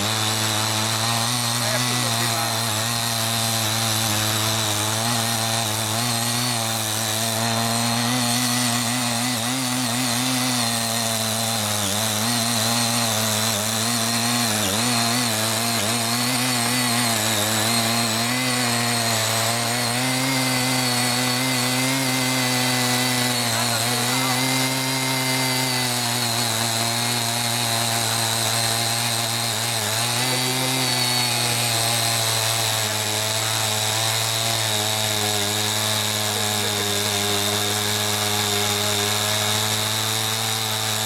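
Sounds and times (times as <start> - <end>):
tiller engine running under load: 0.0 - 41.0.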